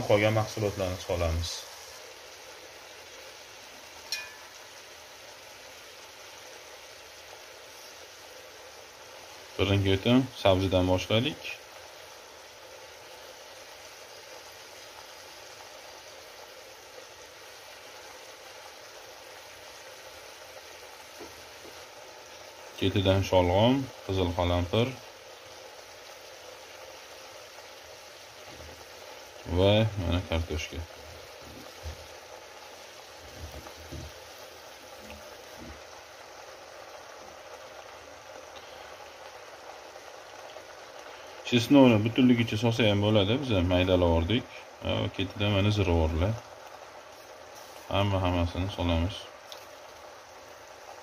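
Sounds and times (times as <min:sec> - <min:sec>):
meat sizzling in a pot: 0:00.0 - 0:51.0.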